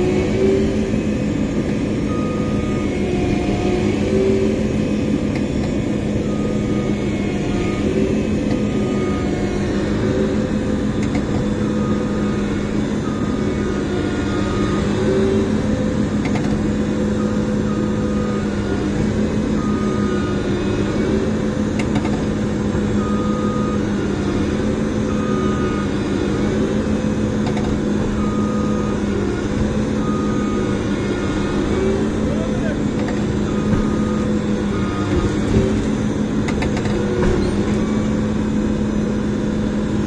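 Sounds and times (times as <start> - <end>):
combine harvester engine hum: 0.0 - 40.0.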